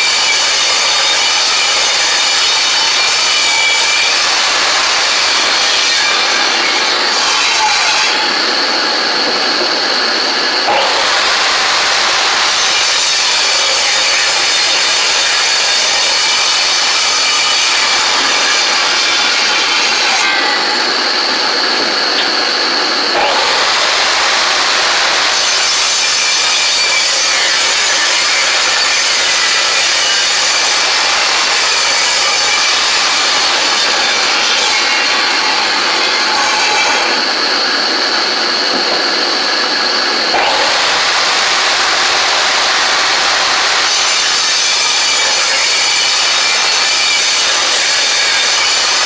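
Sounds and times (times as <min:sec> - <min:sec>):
table saw cutting wood: 0:00.0 - 0:49.0.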